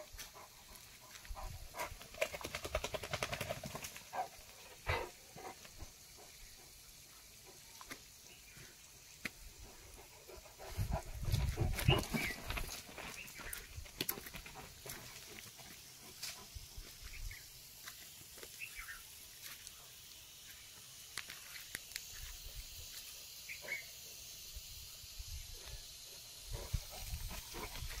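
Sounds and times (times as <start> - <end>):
light steady hiss: 0.0 - 28.0.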